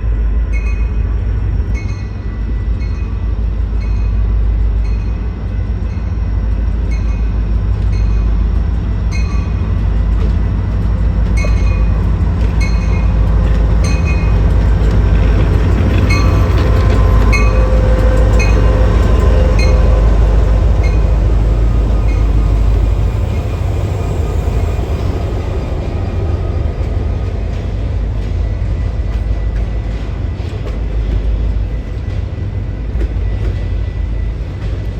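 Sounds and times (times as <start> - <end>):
train rumbling: 0.0 - 34.9
railroad crossing bell ringing: 0.4 - 1.1, 1.7 - 30.0.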